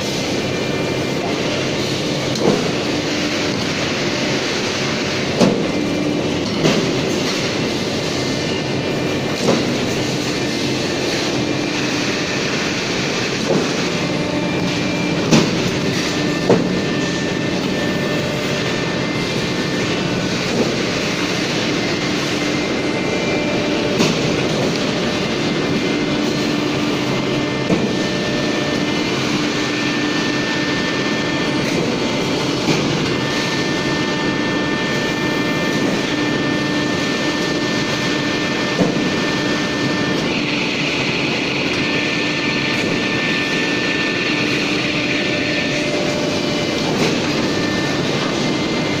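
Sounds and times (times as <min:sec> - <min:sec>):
higher whine: 0:00.0 - 0:49.0
machine hum: 0:00.0 - 0:49.0
motor whine: 0:00.0 - 0:49.0.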